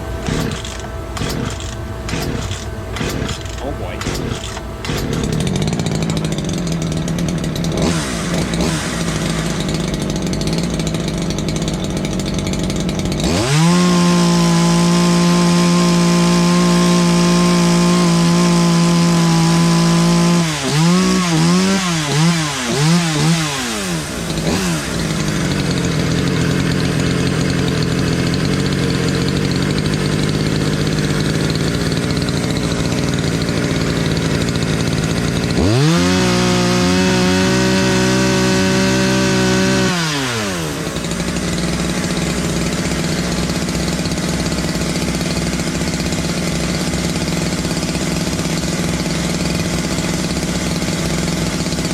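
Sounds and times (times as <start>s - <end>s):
chainsaw revving: 0.0s - 51.9s.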